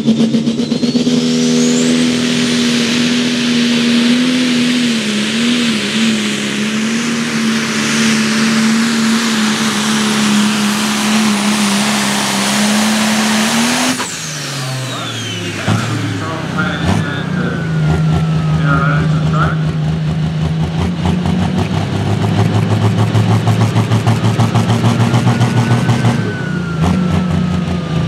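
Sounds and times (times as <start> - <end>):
high turbo whistle: 0.0 - 19.5, 24.7 - 27.9
diesel tractor engine under load: 0.0 - 28.0.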